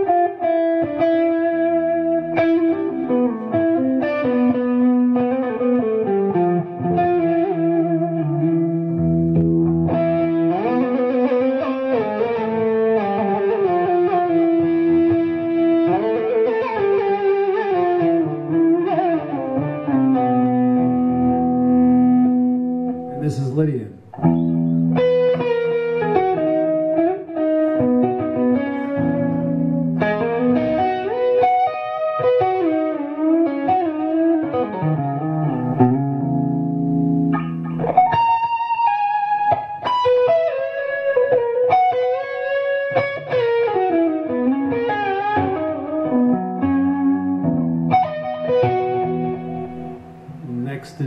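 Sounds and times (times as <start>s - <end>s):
electric guitar lead lines: 0.0s - 51.0s.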